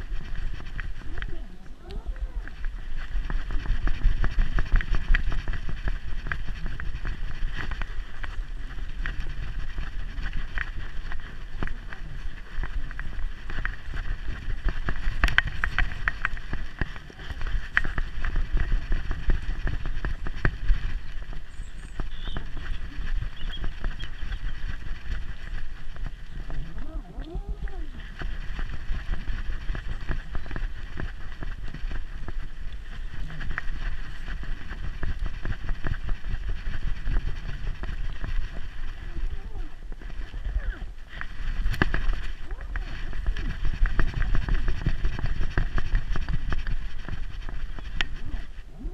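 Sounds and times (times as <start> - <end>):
low rumble of jostled camera: 0.0 - 48.9.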